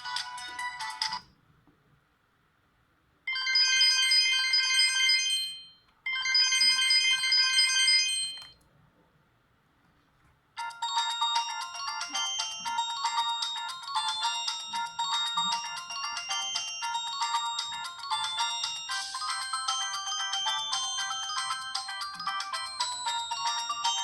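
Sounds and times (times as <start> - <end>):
mobile phone ringtones: 0.0 - 1.3, 3.3 - 8.6, 10.6 - 24.0.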